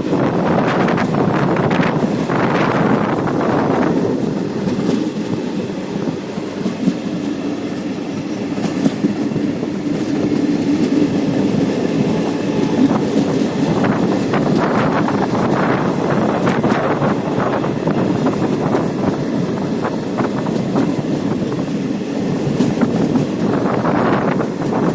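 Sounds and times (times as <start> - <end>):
train rumble: 0.0 - 24.9
wheels clicking over rail joints: 0.6 - 24.9.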